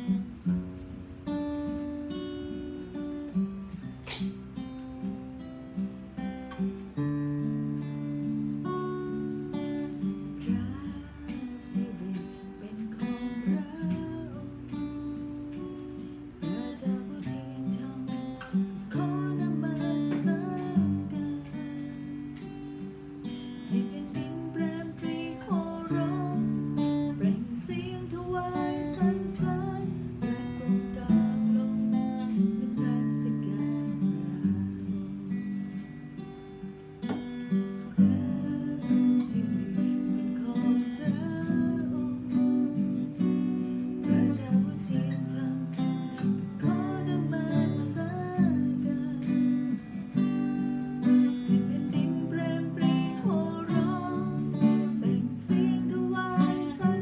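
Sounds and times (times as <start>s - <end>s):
acoustic guitars playing: 0.0s - 57.0s
woman singing: 8.6s - 35.7s, 37.7s - 57.0s.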